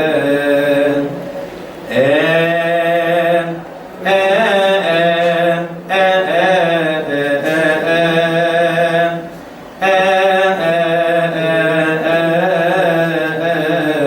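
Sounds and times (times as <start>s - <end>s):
man chanting a hymn: 0.0s - 1.3s, 1.9s - 14.0s.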